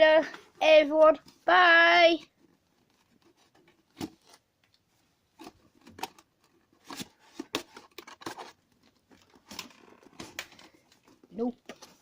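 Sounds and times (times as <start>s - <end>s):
cardboard and plastic packaging rustling: 0.0s - 12.0s.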